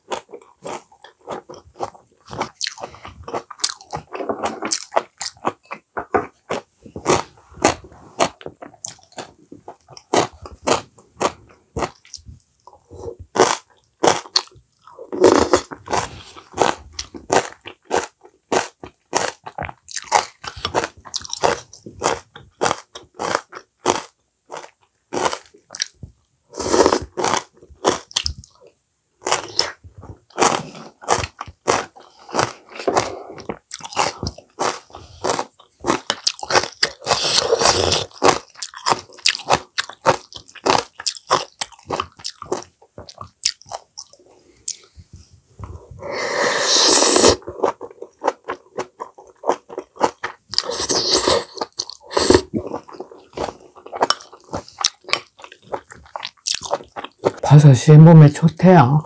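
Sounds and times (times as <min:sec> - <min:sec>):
person chewing crunchy food: 0:00.0 - 0:45.0, 0:45.6 - 0:57.6.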